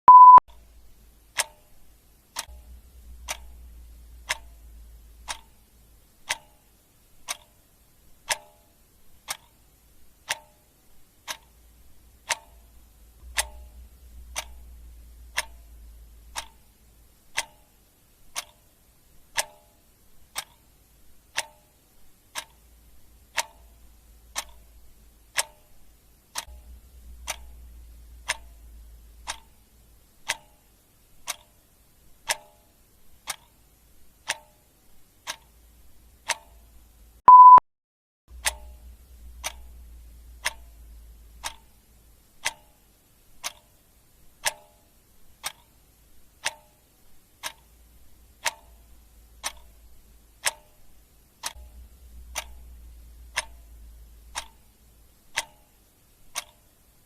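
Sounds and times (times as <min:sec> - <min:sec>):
clock ticking: 0:00.1 - 0:37.6, 0:38.3 - 0:57.0
faint low hum: 0:00.1 - 0:37.6, 0:38.3 - 0:57.0.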